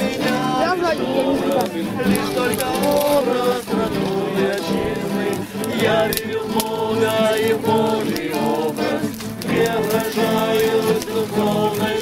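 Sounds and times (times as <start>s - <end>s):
group singing: 0.0s - 12.0s
strummed acoustic guitars: 0.0s - 12.0s.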